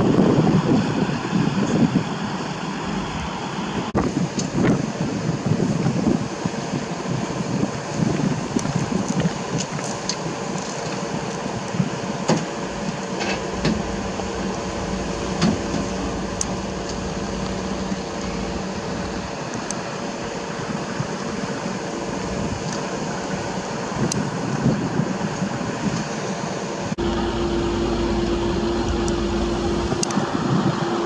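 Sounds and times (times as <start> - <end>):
diesel machinery idling: 0.0 - 31.0.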